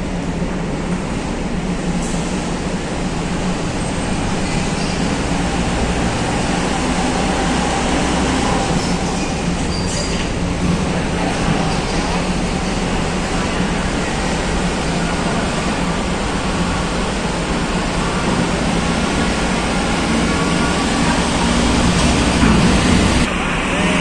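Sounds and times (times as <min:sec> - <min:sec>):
bus engine running: 0:00.0 - 0:24.0.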